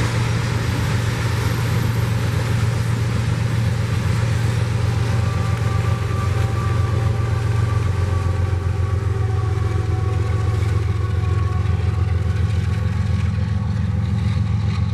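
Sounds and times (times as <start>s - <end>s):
freight train passing: 0.0s - 14.9s.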